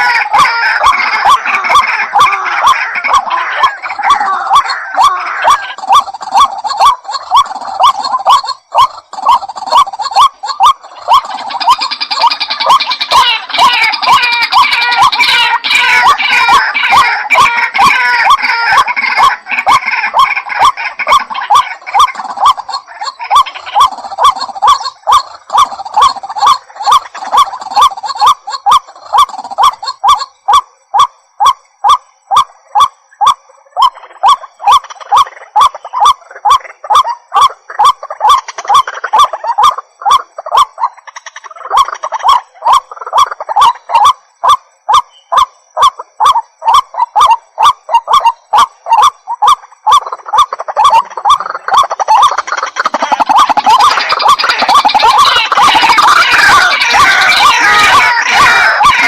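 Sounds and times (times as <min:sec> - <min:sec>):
waterhen calling: 0:00.0 - 0:59.0.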